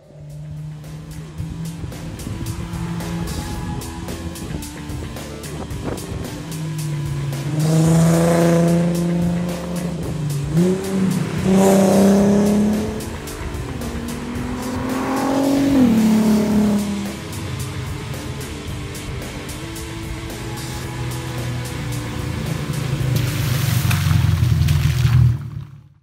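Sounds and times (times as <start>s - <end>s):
background music with steady beat: 0.0s - 23.9s
race car engine accelerating: 0.0s - 24.8s.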